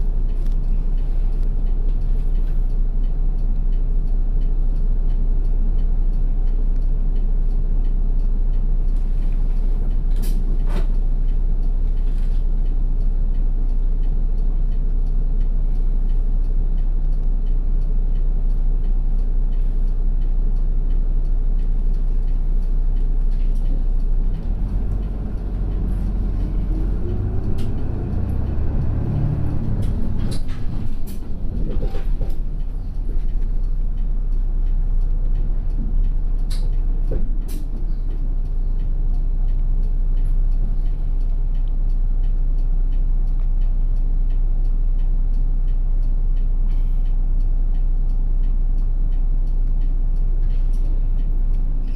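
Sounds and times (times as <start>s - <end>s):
bus diesel engine droning: 0.0s - 51.9s.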